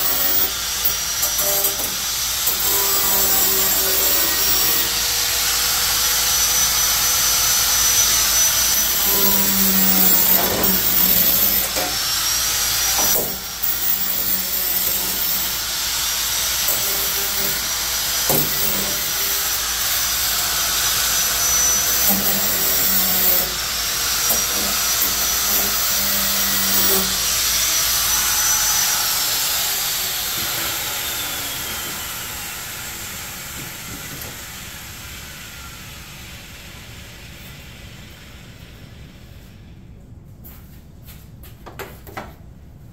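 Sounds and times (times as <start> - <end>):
power grinder whining on sheet metal: 0.0 - 37.1.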